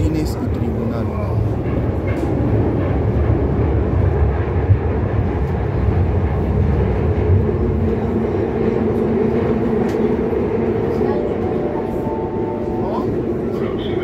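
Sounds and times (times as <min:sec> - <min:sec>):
train rumbling in tunnel: 0:00.0 - 0:14.0.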